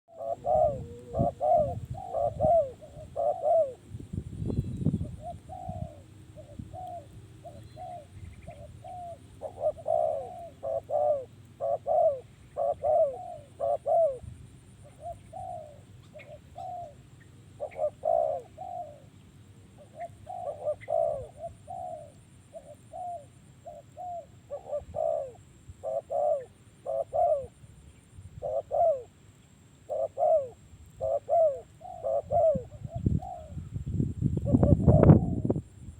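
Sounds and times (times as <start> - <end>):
dove cooing: 0.1 - 27.6, 28.4 - 29.2, 29.8 - 33.8, 34.4 - 35.7.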